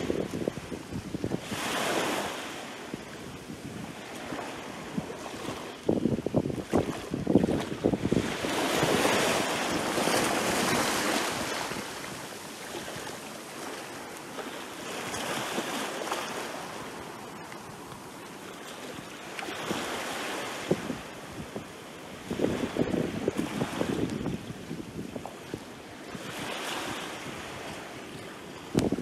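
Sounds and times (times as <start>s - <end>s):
small waves breaking on shore: 0.0s - 29.0s.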